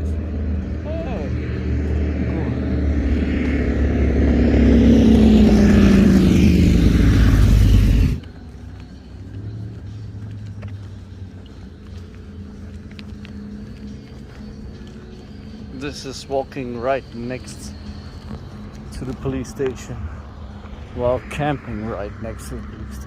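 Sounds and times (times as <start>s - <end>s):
vehicle passing by: 0.0s - 23.0s.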